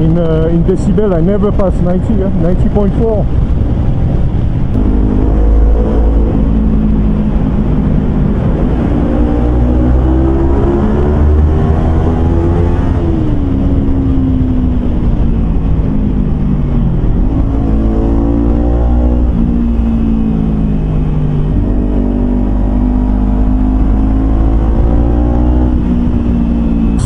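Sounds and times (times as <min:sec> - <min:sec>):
motorcycle engine accelerating: 0:03.3 - 0:27.0.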